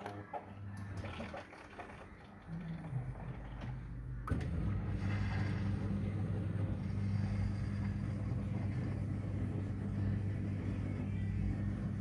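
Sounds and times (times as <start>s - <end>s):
dishwasher pump humming: 0.0s - 12.0s.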